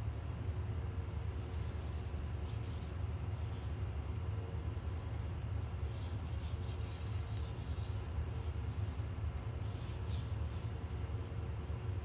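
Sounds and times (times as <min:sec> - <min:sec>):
steady low hum: 0:00.0 - 0:12.0
hands rubbing wooden wand: 0:00.2 - 0:12.0.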